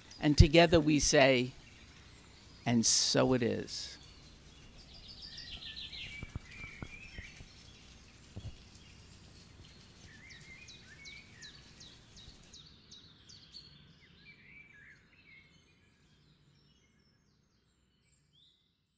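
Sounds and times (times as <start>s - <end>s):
birds chirping and warbling: 0.0s - 18.5s.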